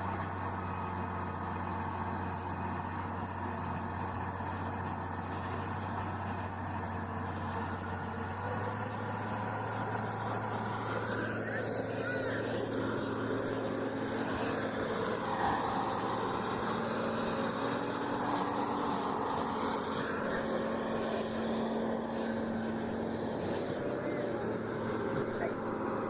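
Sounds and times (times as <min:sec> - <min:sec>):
outdoor noise: 0:00.0 - 0:26.0
vehicle engine humming: 0:00.0 - 0:26.0.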